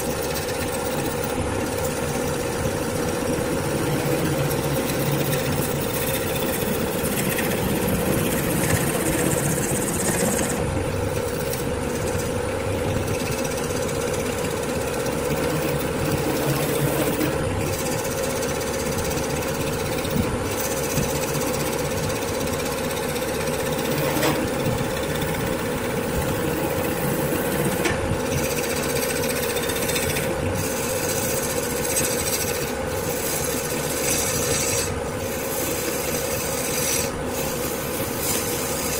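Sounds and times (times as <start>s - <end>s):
turning tool chattering cut: 0.0s - 38.9s
wood lathe hum: 0.0s - 38.9s.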